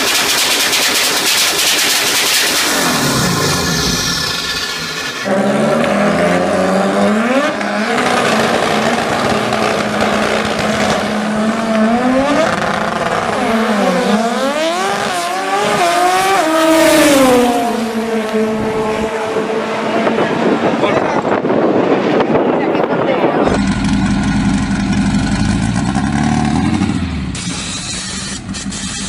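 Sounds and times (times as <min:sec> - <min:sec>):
drag racing car engines: 0:00.0 - 0:29.0.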